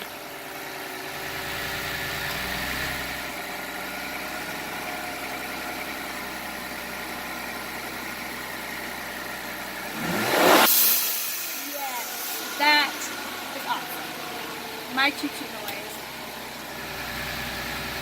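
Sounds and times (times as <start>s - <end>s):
car engine idling: 0.0s - 18.0s
engine revving: 0.0s - 18.0s.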